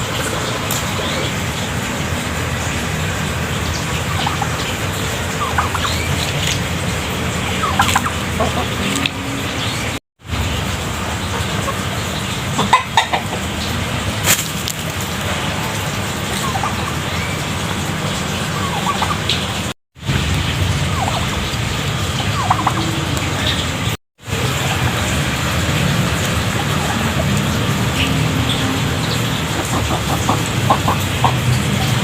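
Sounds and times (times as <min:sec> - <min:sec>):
steady background noise: 0:00.0 - 0:32.0
chickens and turkeys clucking: 0:00.1 - 0:10.0, 0:10.9 - 0:19.7, 0:20.9 - 0:23.8, 0:24.4 - 0:32.0.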